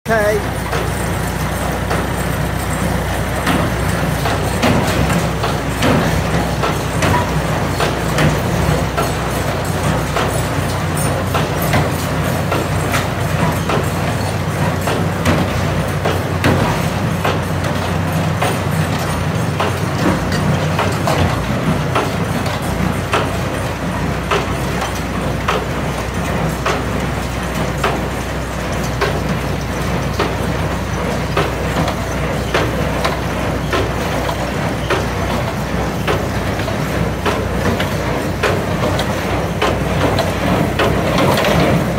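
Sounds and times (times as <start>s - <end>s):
tractor engine running: 0.0s - 41.9s
mechanical knocks and clatters: 0.2s - 41.9s.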